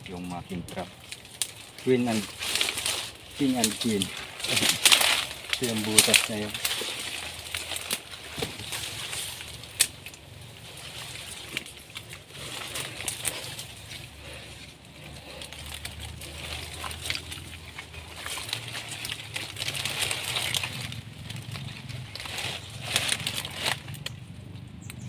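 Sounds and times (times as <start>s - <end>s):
dry leaves rustling and crackling: 0.0s - 25.0s.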